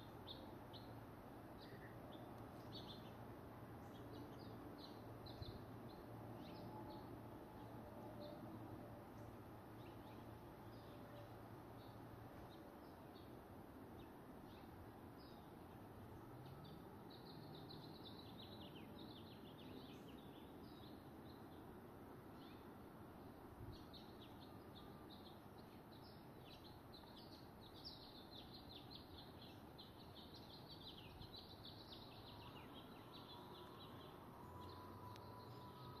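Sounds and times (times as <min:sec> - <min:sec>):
low steady background hiss: 0:00.0 - 0:36.0.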